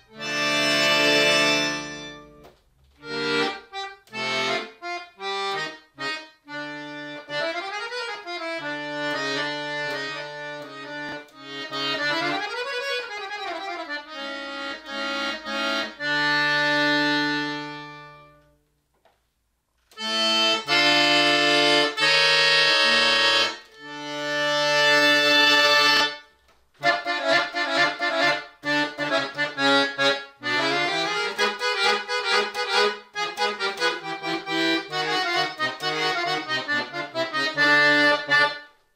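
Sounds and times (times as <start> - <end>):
solo button accordion playing: 0.0 - 18.6, 19.9 - 38.9.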